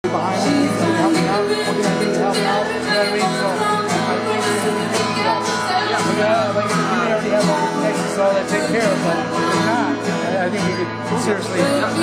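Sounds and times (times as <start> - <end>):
music with singing voice: 0.0 - 12.0.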